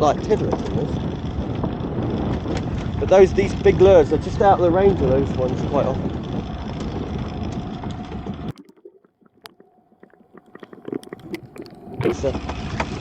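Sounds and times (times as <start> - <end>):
wind rumbling on microphone: 0.0 - 8.6, 9.5 - 13.0
sea noise: 0.0 - 13.0.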